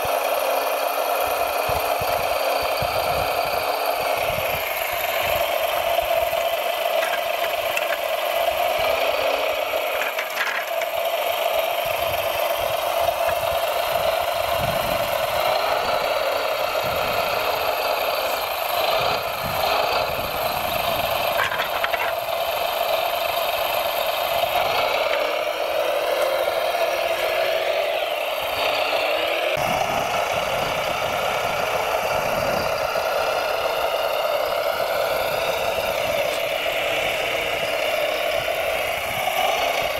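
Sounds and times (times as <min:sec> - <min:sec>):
steady motor whine: 0:00.0 - 0:39.9.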